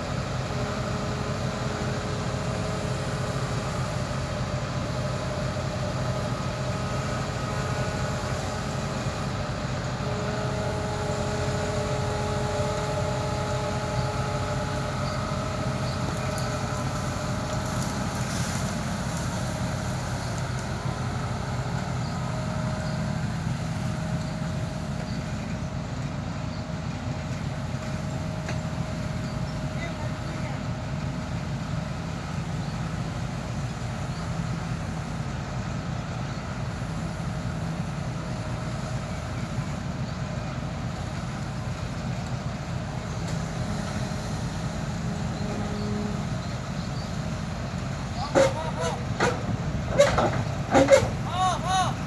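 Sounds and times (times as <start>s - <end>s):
diesel machinery engine hum: 0.0s - 52.0s.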